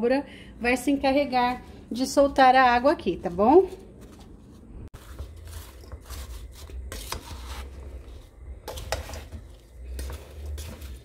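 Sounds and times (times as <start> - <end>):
wooden spoon stirring in a pot: 1.3 - 11.0.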